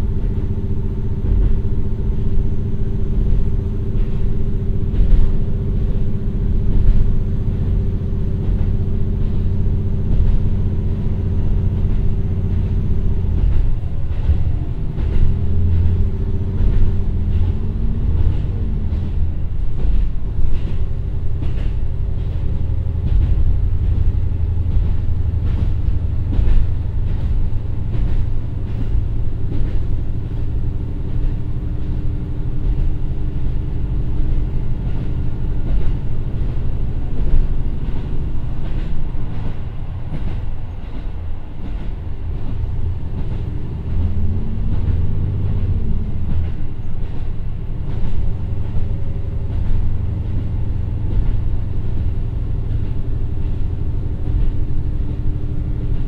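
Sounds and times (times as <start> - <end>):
diesel engine drone: 0.0 - 56.0
wheels clacking over rail joints: 3.2 - 56.0.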